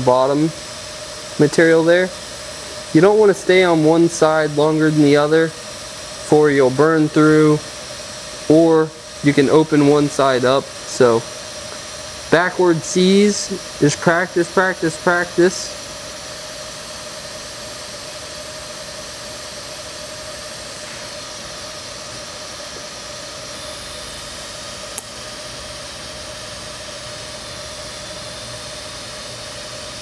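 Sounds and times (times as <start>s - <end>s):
steady hum: 0.0s - 30.0s
welding arc hiss: 0.0s - 30.0s.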